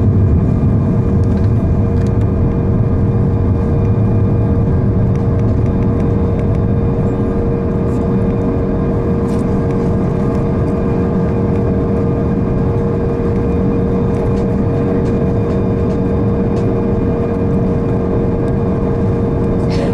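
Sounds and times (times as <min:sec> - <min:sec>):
constant humming tone: 0:00.0 - 0:19.9
jet engine and airflow noise: 0:00.0 - 0:19.9.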